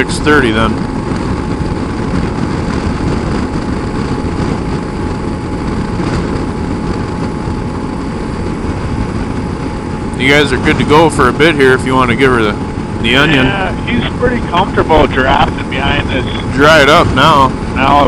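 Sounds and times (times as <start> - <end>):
motorcycle engine drone: 0.0 - 18.0
wind rushing: 0.0 - 18.0.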